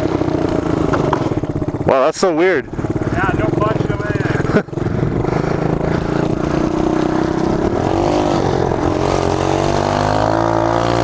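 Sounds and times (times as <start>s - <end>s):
mini-bike engine revving: 0.0s - 11.0s.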